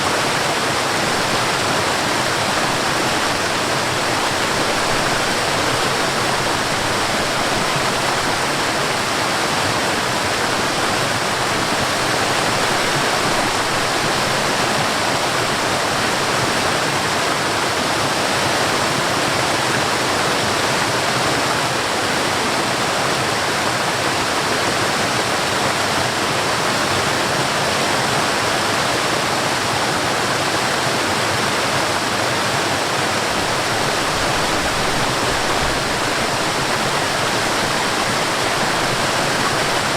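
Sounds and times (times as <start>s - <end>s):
stream over small waterfall: 0.0s - 39.9s.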